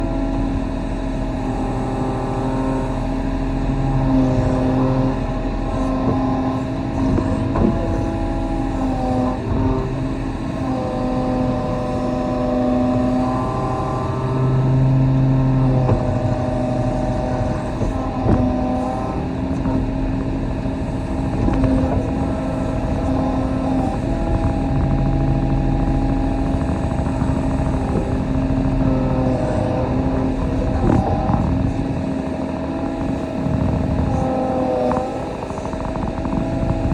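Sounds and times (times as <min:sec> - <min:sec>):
diesel engine running: 0:00.0 - 0:36.9
hydraulic whine: 0:00.0 - 0:36.9.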